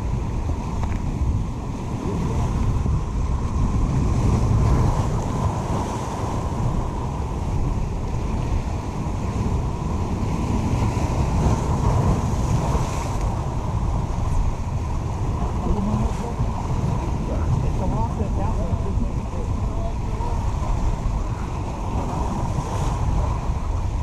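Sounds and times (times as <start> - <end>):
surf breaking over rocks: 0.0 - 24.0
wind rumbling on microphone: 0.0 - 24.0.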